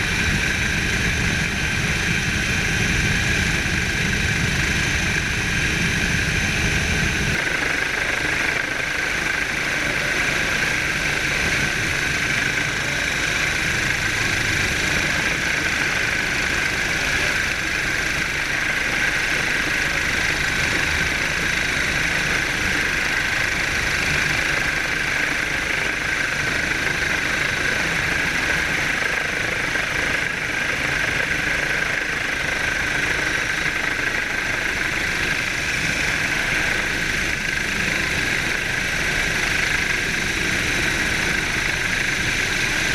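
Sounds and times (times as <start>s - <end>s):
engine drone: 0.0s - 42.9s.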